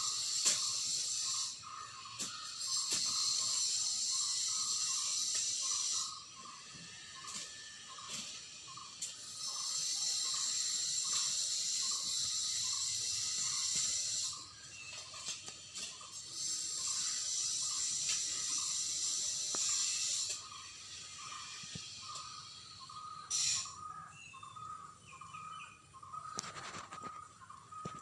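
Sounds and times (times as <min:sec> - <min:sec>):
shrill insect buzz: 0:00.0 - 0:24.8
pulsing insect call: 0:00.0 - 0:28.0.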